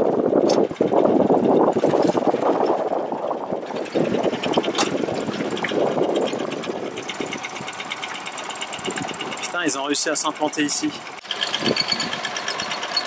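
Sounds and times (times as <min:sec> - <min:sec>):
boat engine running: 0:00.0 - 0:13.0
water rushing along hull: 0:01.1 - 0:13.0.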